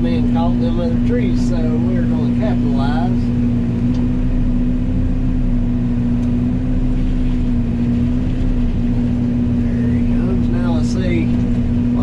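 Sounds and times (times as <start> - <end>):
excavator mulcher drone: 0.0 - 12.0.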